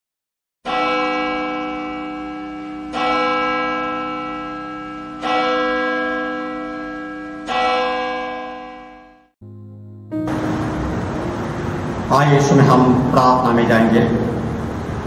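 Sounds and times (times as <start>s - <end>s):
church bell ringing: 0.6s - 14.6s.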